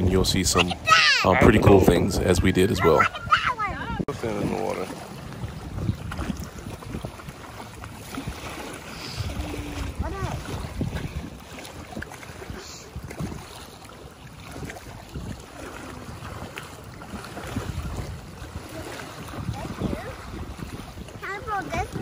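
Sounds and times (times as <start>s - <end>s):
small waves lapping on shore: 0.0s - 22.0s
wind buffeting microphone: 0.0s - 22.0s.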